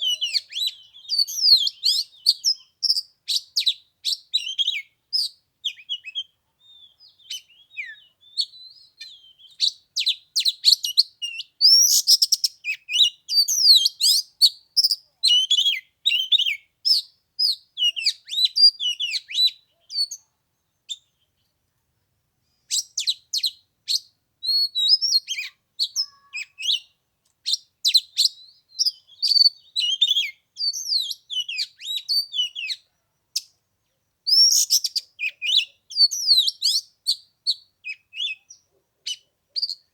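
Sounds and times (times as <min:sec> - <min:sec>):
bird singing whistles and chirps: 0:00.0 - 0:21.4, 0:22.7 - 0:33.5, 0:34.3 - 0:39.9.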